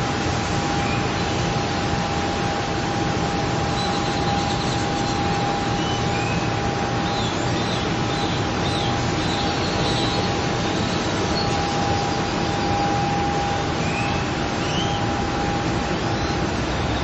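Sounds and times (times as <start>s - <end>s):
steady rushing noise: 0.0s - 17.0s
thin steady tone: 0.0s - 17.0s.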